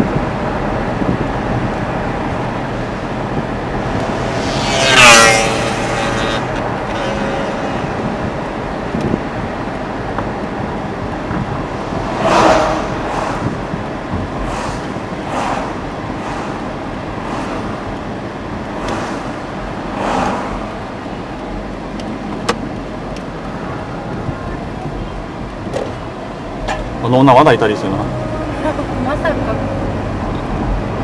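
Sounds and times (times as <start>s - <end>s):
vehicles swishing past: 0.0s - 31.0s.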